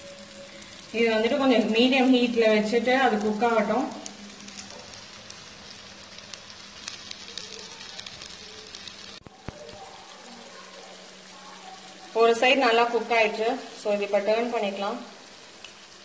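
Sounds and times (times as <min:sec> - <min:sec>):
batter frying in hot oil: 0:00.0 - 0:16.0.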